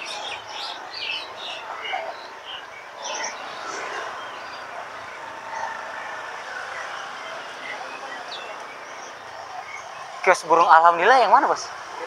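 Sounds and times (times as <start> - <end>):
songbirds chirping: 0.0 - 12.0
street noise: 0.0 - 12.0.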